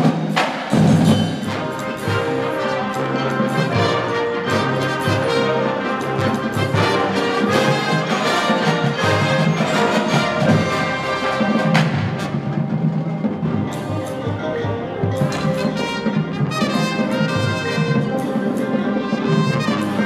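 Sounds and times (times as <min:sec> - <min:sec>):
marching band playing: 0:00.0 - 0:20.0
timpani: 0:00.0 - 0:20.0
trumpets and trombones: 0:00.0 - 0:20.0.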